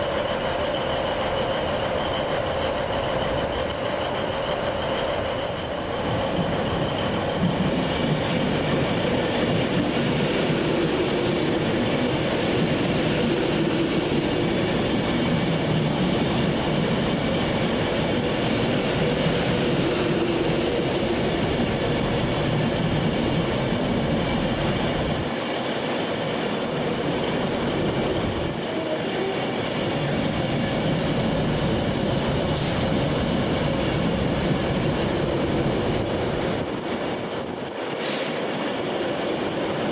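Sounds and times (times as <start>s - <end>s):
train running on track: 0.0s - 39.9s.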